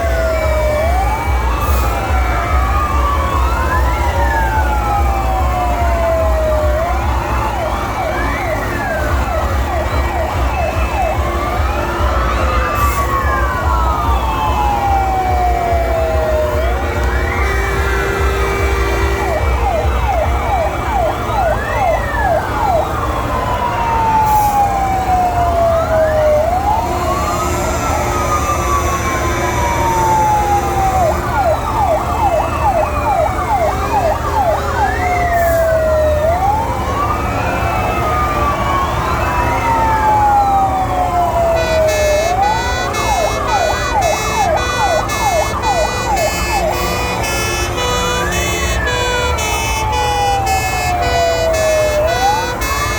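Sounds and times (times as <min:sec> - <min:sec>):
fire engine sirens wailing: 0:00.0 - 0:52.9.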